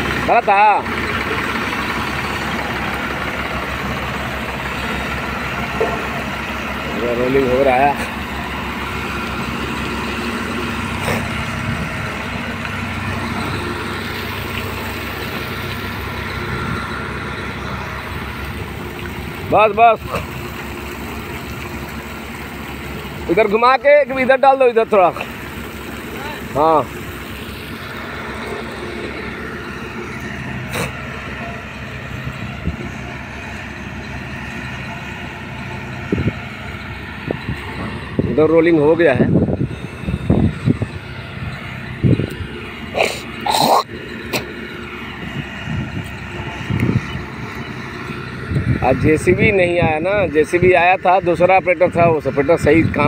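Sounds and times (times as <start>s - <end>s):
diesel machinery engine hum: 0.0s - 53.0s.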